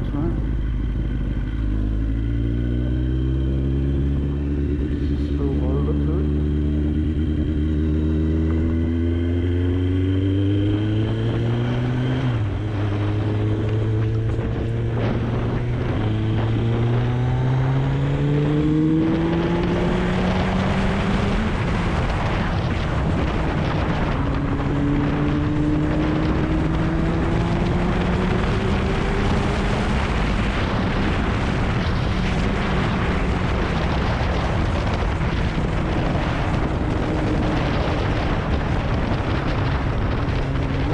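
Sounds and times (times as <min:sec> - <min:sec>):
motorcycle engine accelerating: 0:00.0 - 0:40.9
wind rush on microphone: 0:00.0 - 0:40.9.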